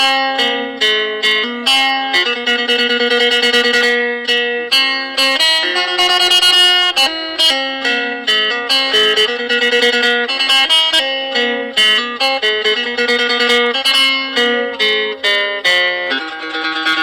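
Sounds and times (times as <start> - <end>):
plucked lute melody: 0.0 - 17.0.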